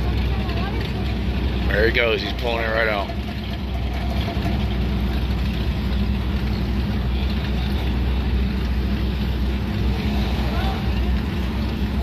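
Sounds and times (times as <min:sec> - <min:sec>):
pickup truck engines running: 0:00.0 - 0:12.0.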